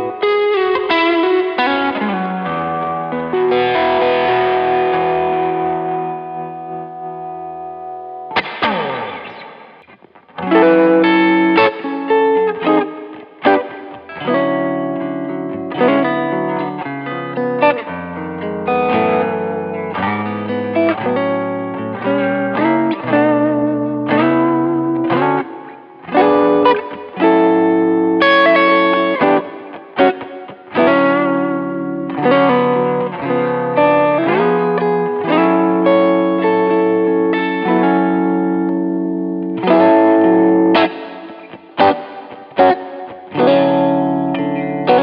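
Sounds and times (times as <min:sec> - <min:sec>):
overdriven electric guitar: 0:00.0 - 0:45.0.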